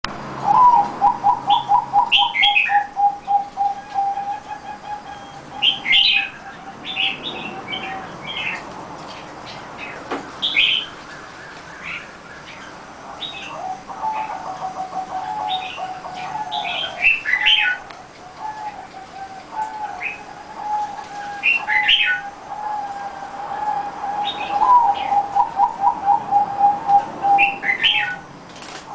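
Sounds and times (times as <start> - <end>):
dove cooing: 0.4 - 8.7, 10.4 - 28.9
small birds chirping: 0.4 - 28.9.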